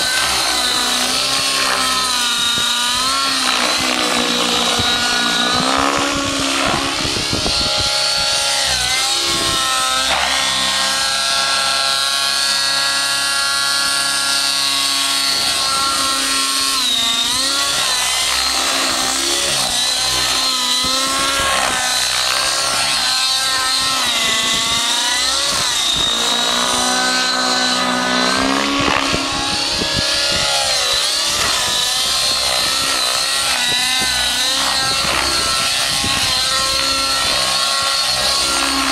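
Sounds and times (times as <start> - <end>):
rc helicopter engine and rotor: 0.0 - 38.9.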